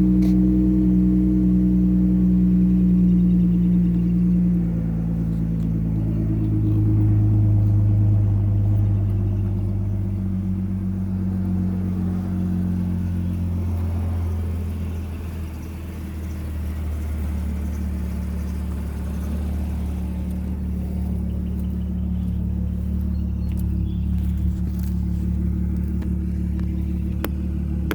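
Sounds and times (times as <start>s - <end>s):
car exhaust idling: 0.0s - 27.9s.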